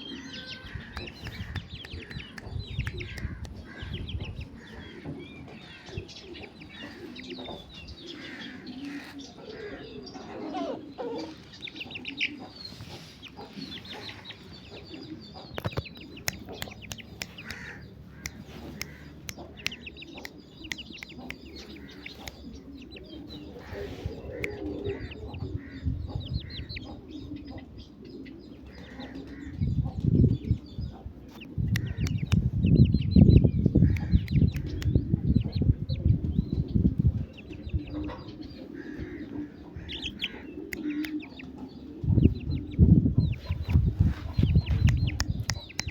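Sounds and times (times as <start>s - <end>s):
chickens clucking: 0.0s - 45.9s
chicks peeping: 0.0s - 45.9s.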